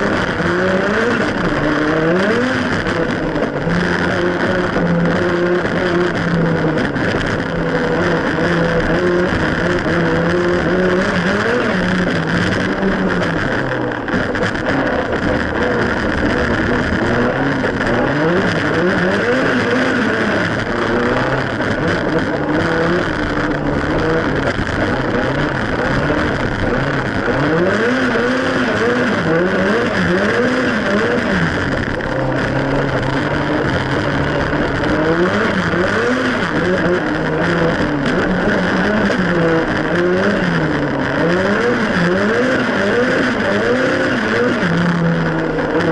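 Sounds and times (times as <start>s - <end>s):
car engine revving through gears: 0.0s - 45.9s.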